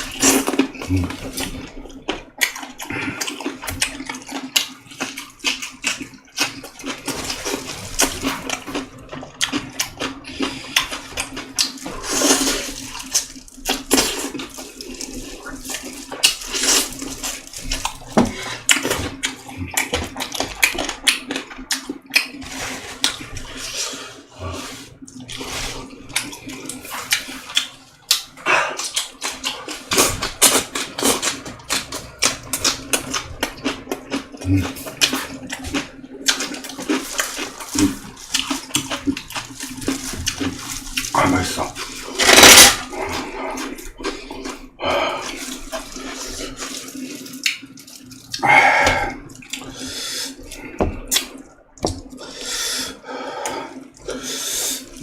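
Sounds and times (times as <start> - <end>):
wet chewing and slurping: 0.0 - 55.0.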